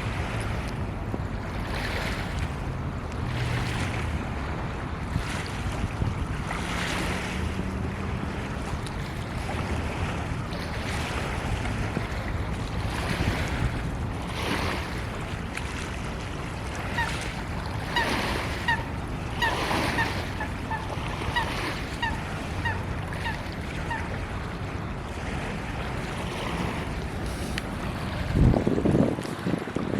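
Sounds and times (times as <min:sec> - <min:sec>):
surf: 0:00.0 - 0:29.9
wind: 0:00.0 - 0:29.9.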